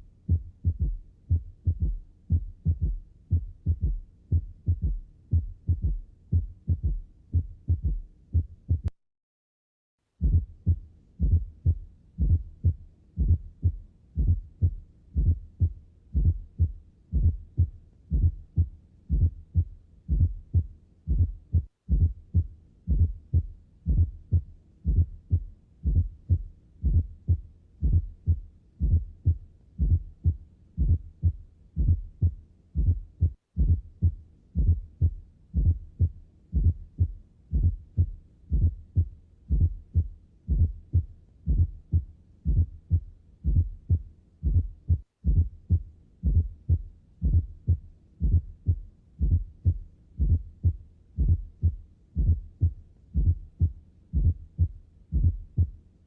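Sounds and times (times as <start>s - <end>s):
heart sounds lub-dub: 0.0s - 9.0s, 10.2s - 55.8s.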